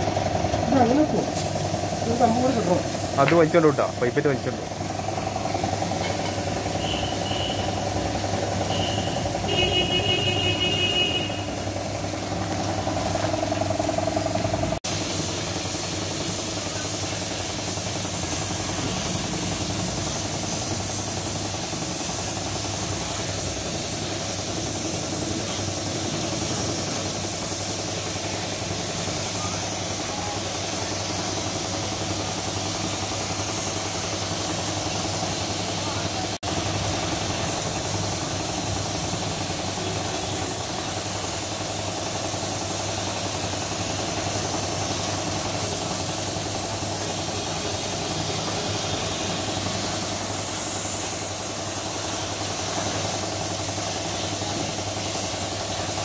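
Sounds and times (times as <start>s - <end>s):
spray gun hissing: 0.7s - 56.0s.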